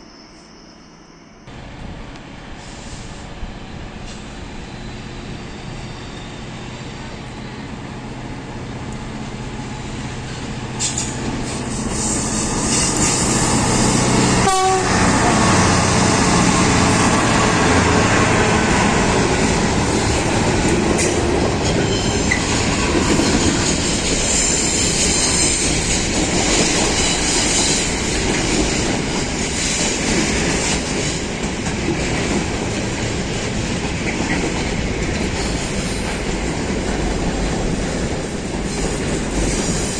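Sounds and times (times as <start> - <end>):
train passing at speed: 0.0 - 39.9.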